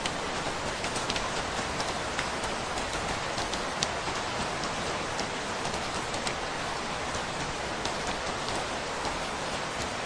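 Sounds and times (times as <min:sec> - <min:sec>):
raindrop impacts ticking: 0:00.0 - 0:10.0
steady rain hiss: 0:00.0 - 0:10.0.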